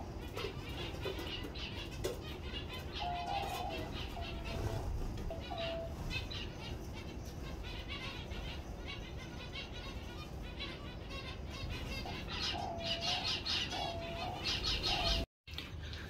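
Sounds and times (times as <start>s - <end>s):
finches chirping: 0.1s - 15.3s
lower-pitched bird calls: 0.3s - 15.3s.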